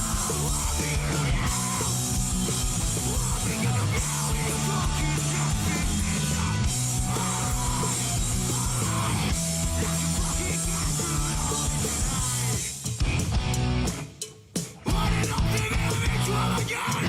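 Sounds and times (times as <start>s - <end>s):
hard rock band playing live: 0.0s - 17.0s.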